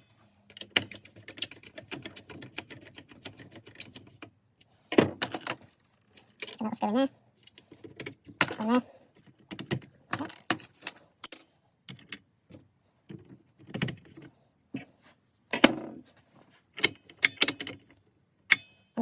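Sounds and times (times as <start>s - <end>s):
plastic parts clicking and clattering: 0.4s - 14.9s, 15.5s - 16.0s, 16.6s - 18.8s.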